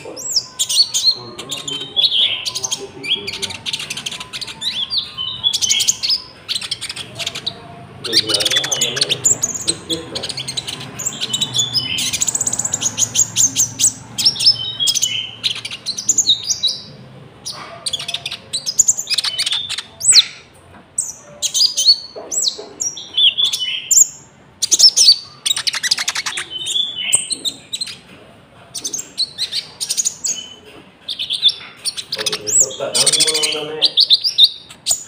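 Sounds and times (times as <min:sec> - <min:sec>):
songbird singing: 0:00.0 - 0:35.0.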